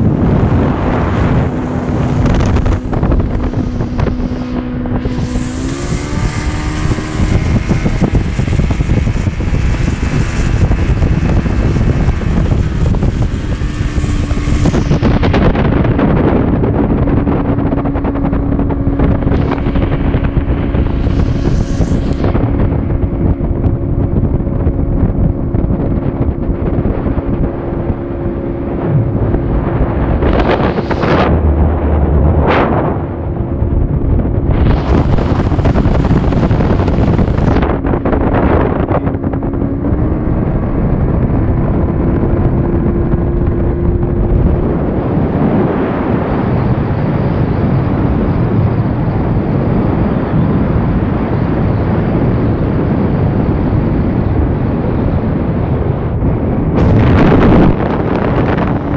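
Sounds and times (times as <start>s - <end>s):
outboard motor drone: 0.0s - 58.9s
wind on microphone: 0.0s - 58.9s.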